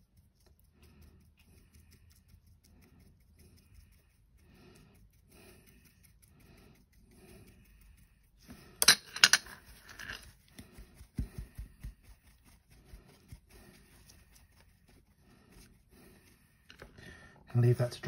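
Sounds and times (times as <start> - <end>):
faint brushing and handling: 0.0 - 18.0.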